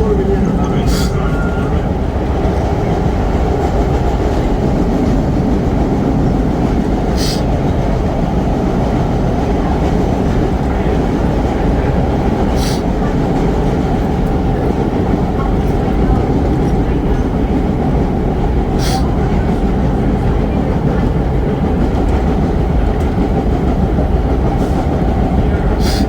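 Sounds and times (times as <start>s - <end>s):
subway train wheels rumbling: 0.0s - 26.0s.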